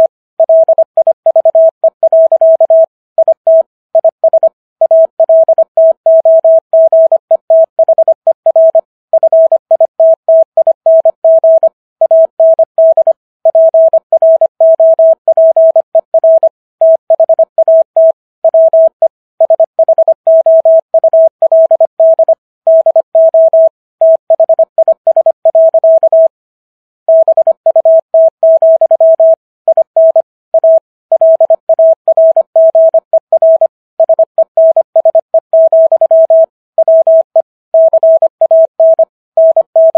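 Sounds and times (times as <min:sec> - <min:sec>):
morse code beeps: 0:00.0 - 0:26.4, 0:27.1 - 0:39.9.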